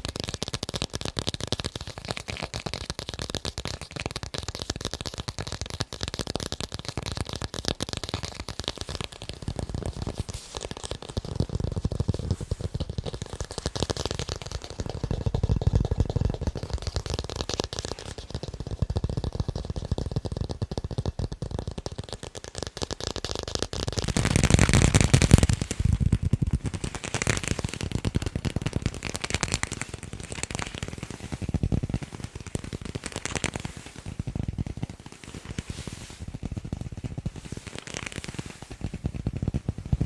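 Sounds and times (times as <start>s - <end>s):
rapid tapping on balls: 0.0s - 40.0s.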